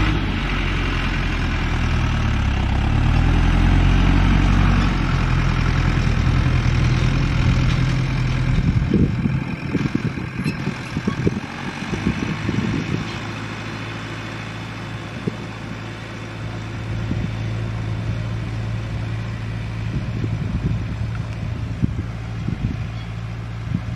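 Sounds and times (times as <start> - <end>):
tractor diesel engine under load: 0.0 - 23.9.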